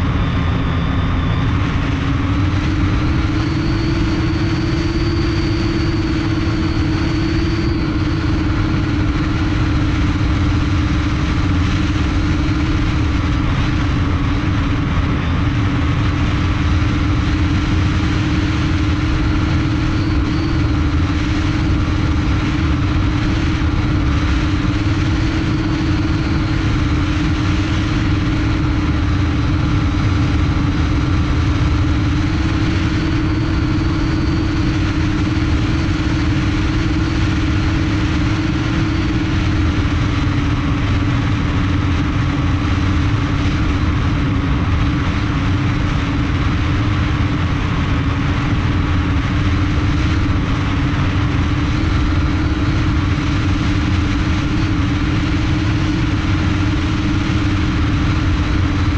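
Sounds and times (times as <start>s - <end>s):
drone propellers humming: 0.0s - 58.9s
low rumble: 0.0s - 58.9s.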